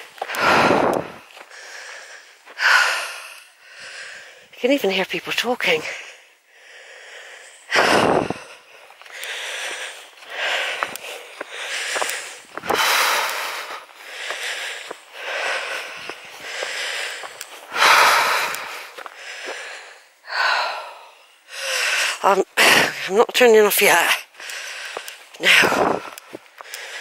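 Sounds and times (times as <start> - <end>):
heavy breathing: 0.0 - 4.6, 5.7 - 23.2, 24.2 - 27.0.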